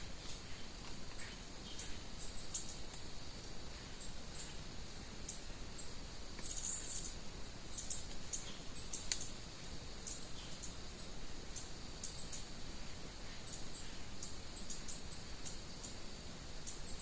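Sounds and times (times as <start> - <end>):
faint high hiss: 0.0 - 17.0
small birds chirping: 0.0 - 17.0.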